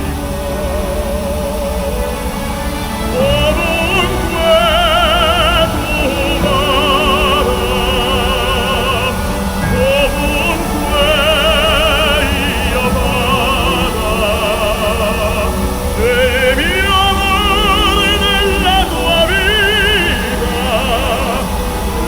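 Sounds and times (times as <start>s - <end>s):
operatic singing with vibrato: 0.0s - 22.0s.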